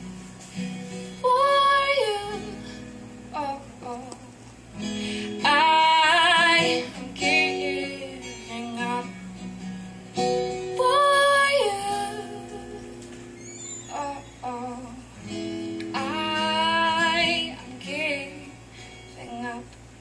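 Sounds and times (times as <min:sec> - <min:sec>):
acoustic guitar: 0:00.0 - 0:20.0
woman singing: 0:01.1 - 0:09.5, 0:10.5 - 0:19.8.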